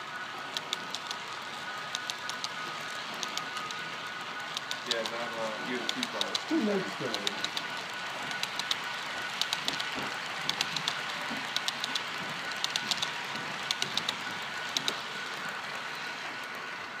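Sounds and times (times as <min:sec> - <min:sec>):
model train wheels clicking: 0:00.0 - 0:17.0
steady hiss: 0:00.0 - 0:17.0.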